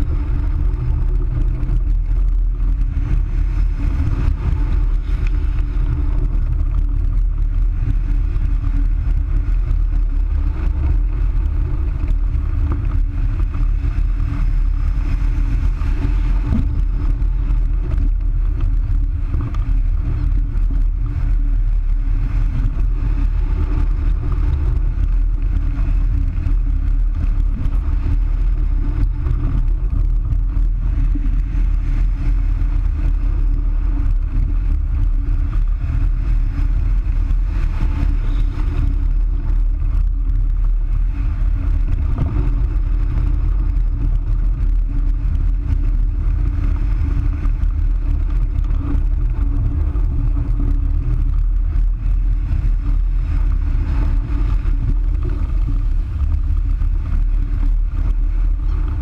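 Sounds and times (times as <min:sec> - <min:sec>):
loud low wind noise: 0:00.0 - 0:59.0.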